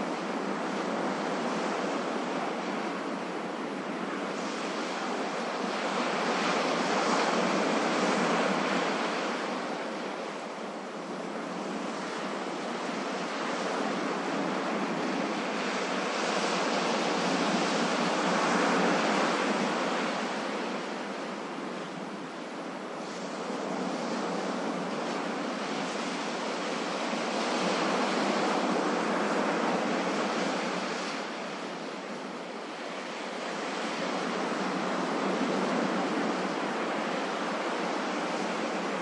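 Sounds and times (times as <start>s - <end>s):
ocean waves washing onto shore: 0.0s - 39.0s.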